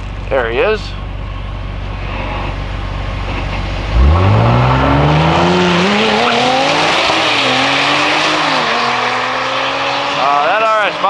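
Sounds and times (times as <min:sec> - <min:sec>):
car engine idling then accelerating: 0:00.0 - 0:11.0.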